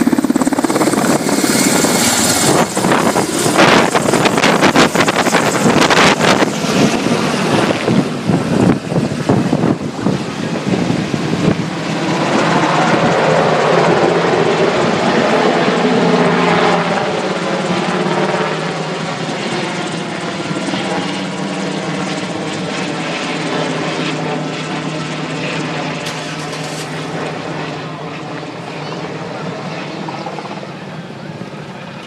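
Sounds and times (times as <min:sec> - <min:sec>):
helicopter passing overhead: 0:00.0 - 0:32.0.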